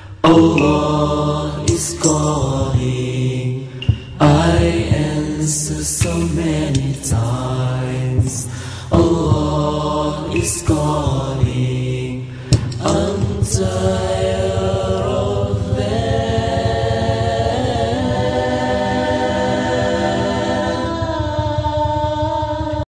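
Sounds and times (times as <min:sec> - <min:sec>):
voices singing in harmony: 0:00.0 - 0:22.9.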